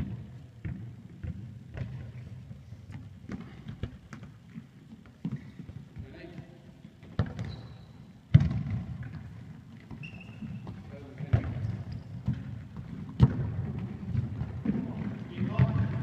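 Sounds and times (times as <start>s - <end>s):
football kicks echoing in hall: 0.0s - 16.0s.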